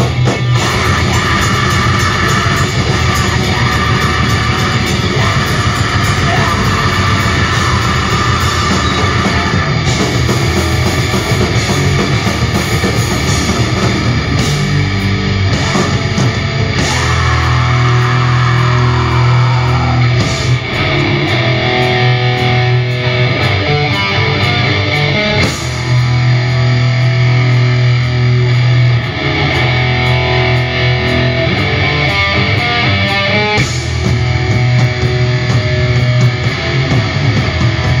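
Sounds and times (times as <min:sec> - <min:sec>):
bass guitar: 0:00.0 - 0:38.0
distorted electric guitar: 0:00.0 - 0:38.0
drums steady beat: 0:00.0 - 0:38.0.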